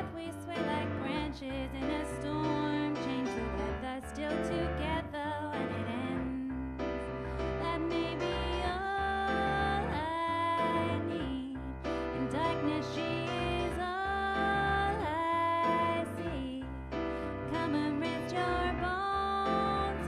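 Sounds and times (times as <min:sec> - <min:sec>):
woman singing: 0:00.0 - 0:06.7, 0:07.4 - 0:20.0
piano chords: 0:00.0 - 0:20.0.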